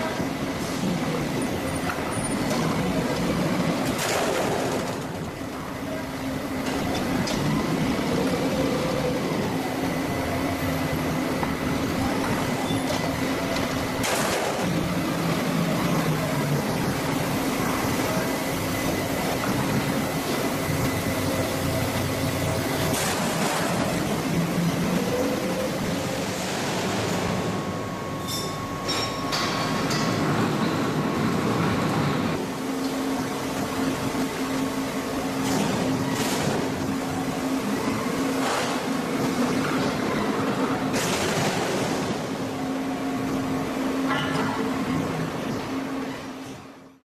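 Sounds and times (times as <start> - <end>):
machinery humming with high whine: 0.0 - 47.0.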